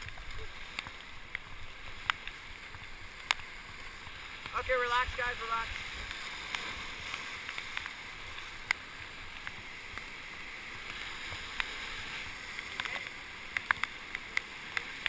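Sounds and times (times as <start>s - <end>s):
river whitewater rushing: 0.0s - 15.0s.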